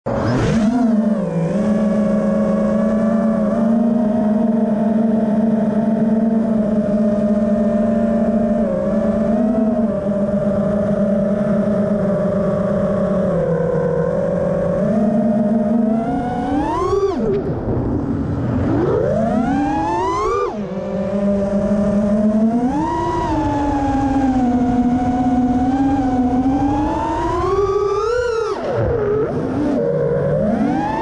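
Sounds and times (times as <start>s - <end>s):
quadcopter motors buzzing: 0.1s - 31.0s.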